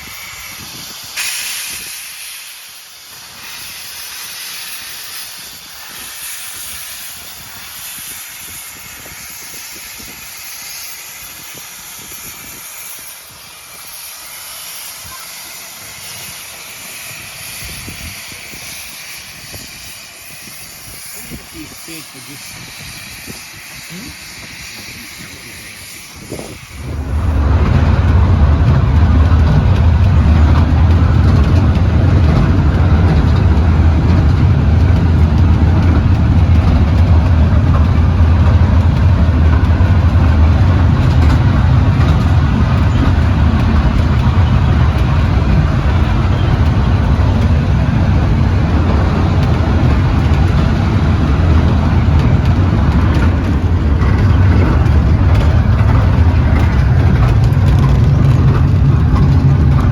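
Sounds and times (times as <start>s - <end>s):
railway carriage rumbling: 0.0s - 59.9s.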